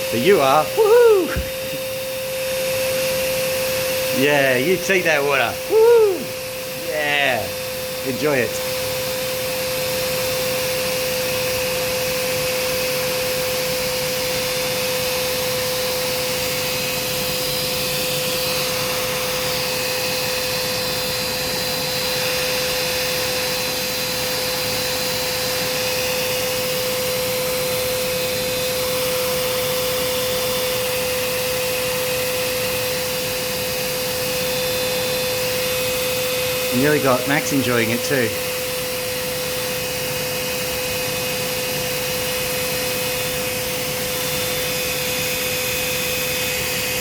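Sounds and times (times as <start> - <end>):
water sprayer motor whine: 0.0 - 47.0.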